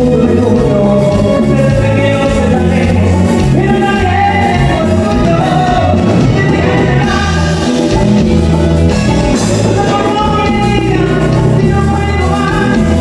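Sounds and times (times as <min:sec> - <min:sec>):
live latin band playing: 0:00.0 - 0:13.0
man singing: 0:00.0 - 0:13.0.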